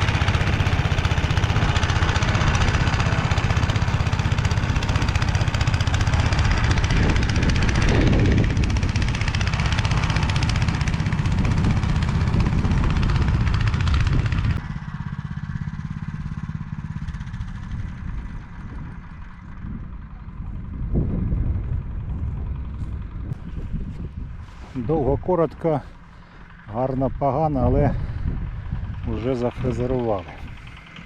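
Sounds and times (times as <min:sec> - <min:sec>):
tiller engine running: 0:00.0 - 0:31.0.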